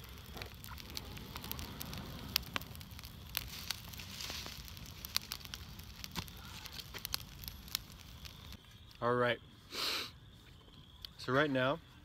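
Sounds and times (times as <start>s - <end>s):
fire hiss: 0.0s - 12.0s
leaf fire crackling and popping: 0.0s - 12.0s.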